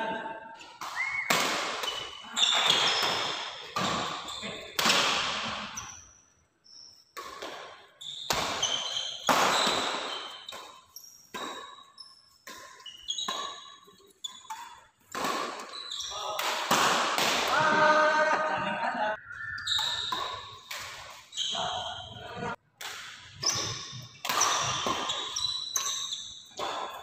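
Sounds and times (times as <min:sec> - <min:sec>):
rackets hitting shuttlecock: 0:00.6 - 0:05.9, 0:07.1 - 0:17.9, 0:19.6 - 0:21.4, 0:22.8 - 0:27.0
shoes squeaking on court floor: 0:00.6 - 0:16.4, 0:19.4 - 0:22.5, 0:23.2 - 0:27.0.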